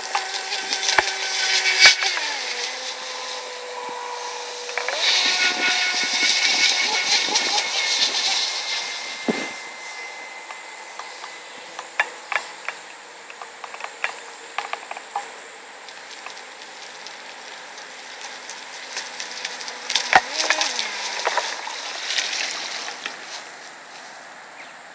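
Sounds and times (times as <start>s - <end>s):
electric speedboat motor whine: 0.0s - 24.9s
faint steady hiss: 0.0s - 24.9s.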